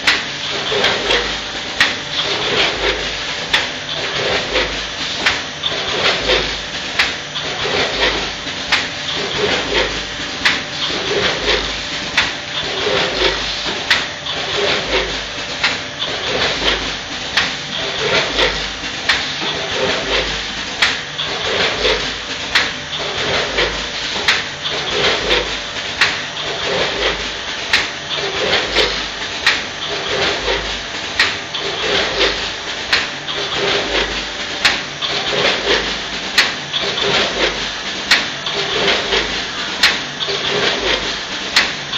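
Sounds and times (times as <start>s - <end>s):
heavy machine pulse: 0.0s - 41.9s
sharp clicks and clacks: 0.0s - 41.9s
vibrating feeders buzzing: 0.0s - 41.9s.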